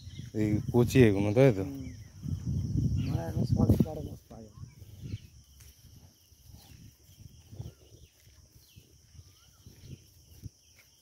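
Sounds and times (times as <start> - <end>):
footsteps on dry soil: 0.0 - 0.7, 1.6 - 11.0
insect chorus: 0.0 - 11.0.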